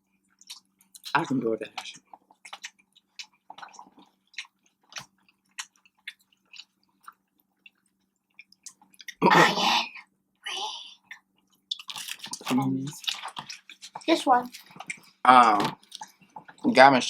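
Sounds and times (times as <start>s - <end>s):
chewing and biting food: 0.2s - 9.2s, 11.0s - 16.6s
wet mouth clicks and smacks: 0.4s - 1.2s, 1.8s - 9.2s, 11.1s - 16.6s.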